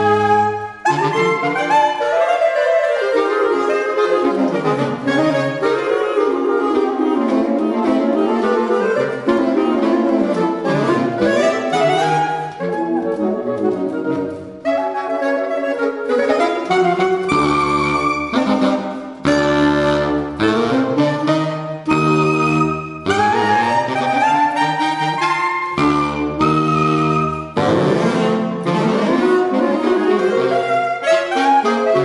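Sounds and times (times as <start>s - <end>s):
saxophone trio playing: 0.0s - 32.0s.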